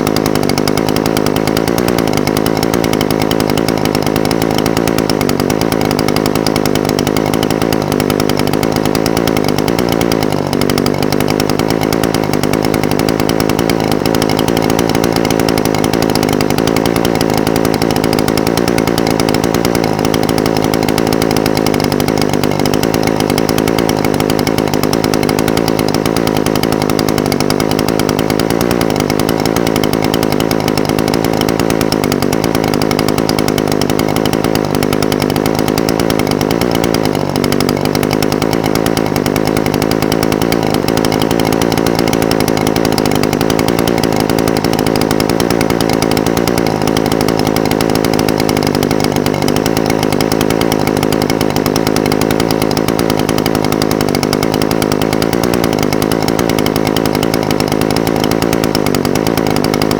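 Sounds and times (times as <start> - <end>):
brush cutter engine idling: 0.0 - 59.9.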